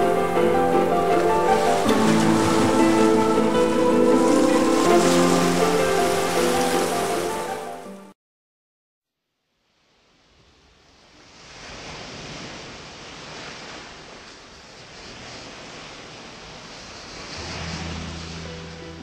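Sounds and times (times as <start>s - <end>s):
sea waves washing on shore: 0.0s - 8.0s, 9.7s - 19.0s.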